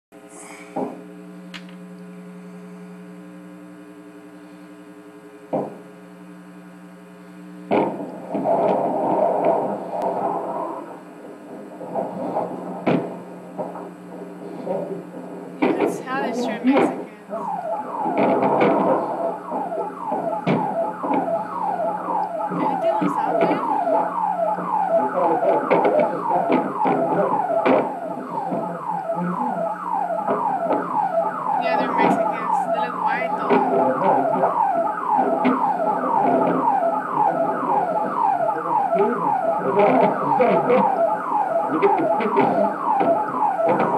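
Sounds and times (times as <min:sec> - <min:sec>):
steady hum: 0:00.1 - 0:43.9
police sirens wailing: 0:07.7 - 0:43.9.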